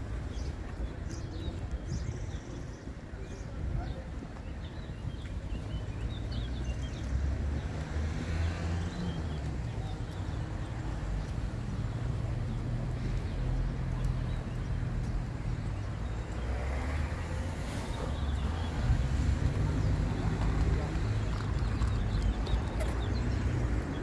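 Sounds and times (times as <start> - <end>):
faint voices of passers-by: 0.0 - 24.0
low rumble of traffic: 0.0 - 24.0.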